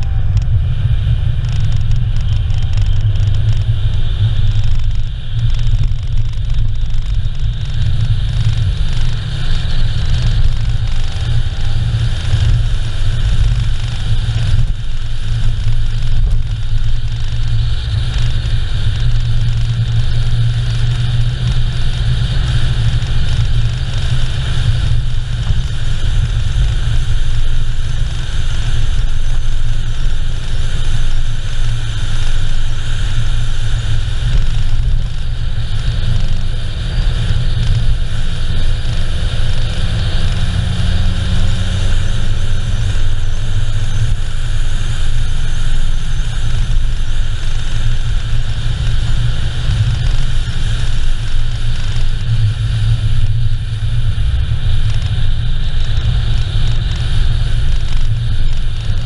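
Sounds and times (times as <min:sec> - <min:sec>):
car driving on asphalt road: 0:00.0 - 0:59.0
wind noise: 0:00.0 - 0:59.0.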